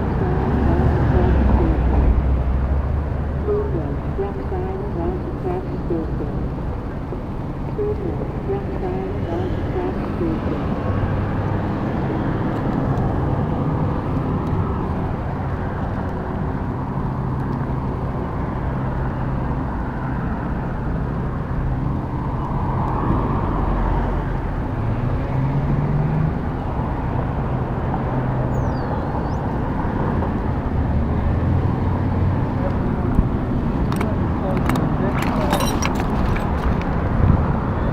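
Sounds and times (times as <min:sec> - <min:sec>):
wind and road noise: 0:00.0 - 0:37.9.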